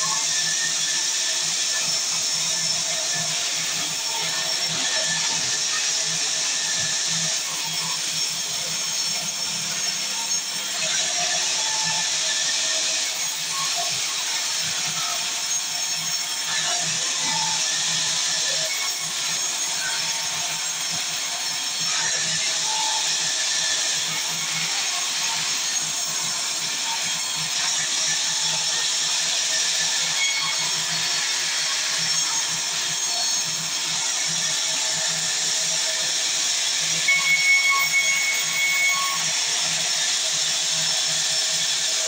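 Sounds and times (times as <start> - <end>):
saw cutting wood: 0.0 - 42.0.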